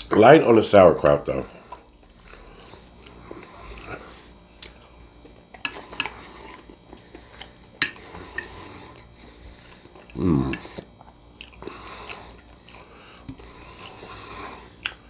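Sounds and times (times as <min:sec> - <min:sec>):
person chewing food: 0:01.0 - 0:15.0.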